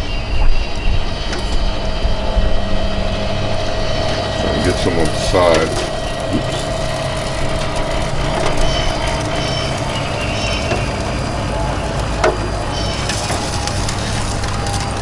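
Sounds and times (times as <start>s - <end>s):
rotisserie motor humming: 0.0s - 15.0s.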